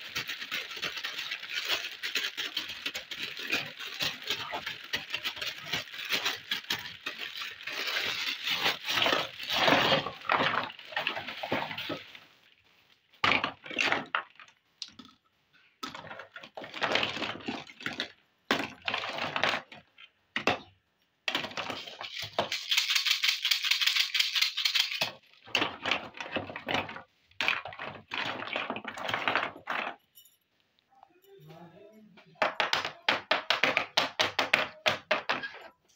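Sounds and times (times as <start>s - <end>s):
plastic toy pieces clattering: 0.0s - 12.2s, 15.8s - 20.7s, 21.3s - 30.1s, 32.4s - 35.9s.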